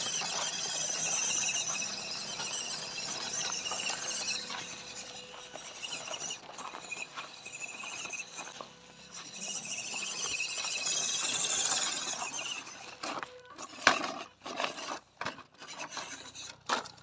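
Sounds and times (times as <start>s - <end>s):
rc crawler crunching over dirt: 0.0s - 17.0s.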